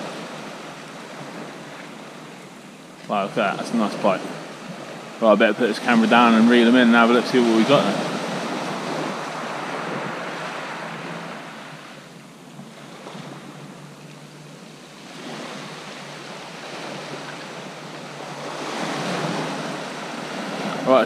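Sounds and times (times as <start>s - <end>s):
sea surf breaking: 0.0s - 21.0s.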